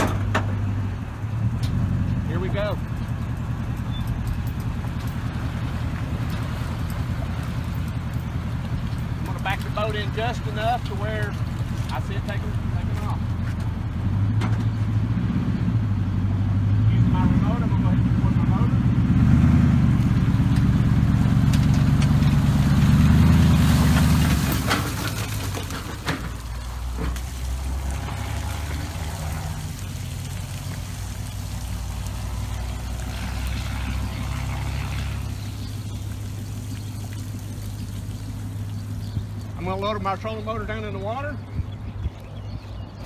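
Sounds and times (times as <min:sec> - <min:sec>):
water pouring off trailer: 0:00.0 - 0:14.4, 0:17.4 - 0:41.4
low steady engine hum: 0:00.0 - 0:43.0
truck engine running: 0:00.0 - 0:43.0.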